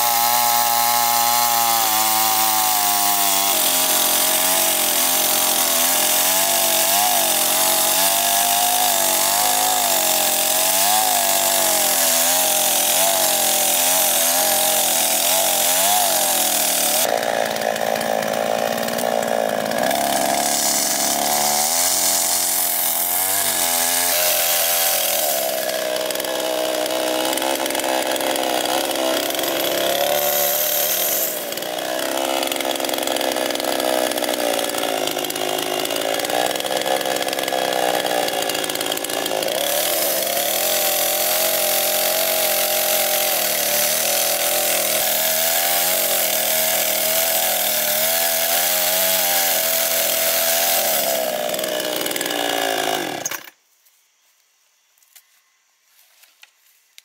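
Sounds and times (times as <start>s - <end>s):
chainsaw cutting wood: 0.0s - 53.6s.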